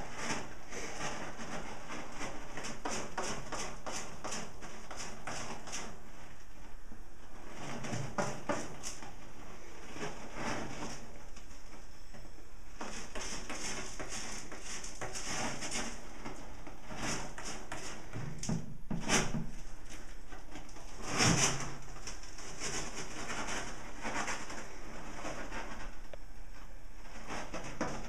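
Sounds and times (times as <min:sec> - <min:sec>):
cat scratching in litter: 0:00.0 - 0:12.0, 0:12.7 - 0:26.1, 0:27.0 - 0:28.0.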